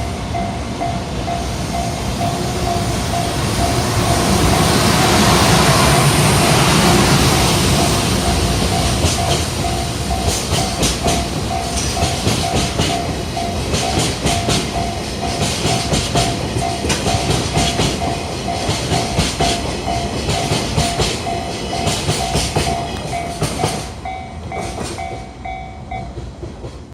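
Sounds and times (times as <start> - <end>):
level-crossing warning bell: 0.0 - 26.3
train wheels clacking on rails: 0.0 - 26.9.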